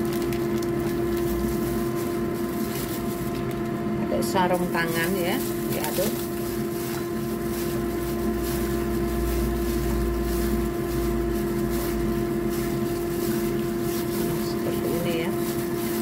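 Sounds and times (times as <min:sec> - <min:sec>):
gloved hands rustling: 0:00.0 - 0:03.8, 0:04.5 - 0:16.0
machine droning hum: 0:00.0 - 0:16.0.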